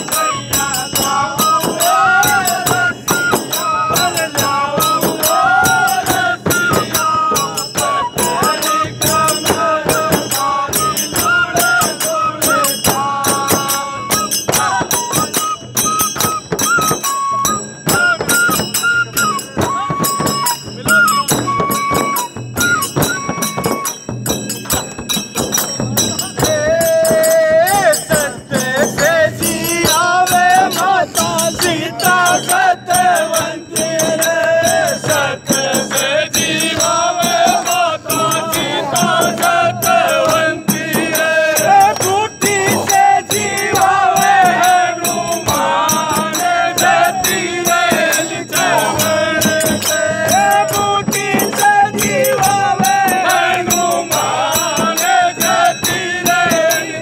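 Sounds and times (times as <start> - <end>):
wavering melody: 0.0 - 56.9
frame drums beating: 0.0 - 57.0
hand cymbals clashing: 0.0 - 57.0.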